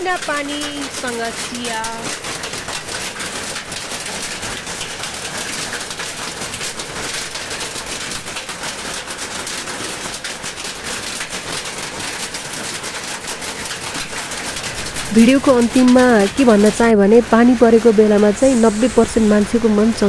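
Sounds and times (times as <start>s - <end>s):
hailstones ticking: 0.0s - 20.0s
heavy rain on concrete: 0.0s - 20.0s.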